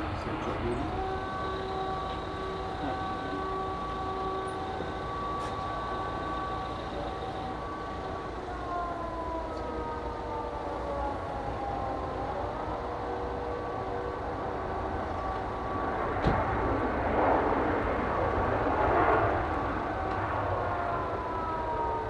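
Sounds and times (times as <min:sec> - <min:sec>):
jet engine whine: 0:00.0 - 0:22.0
low jet rumble: 0:00.0 - 0:22.0.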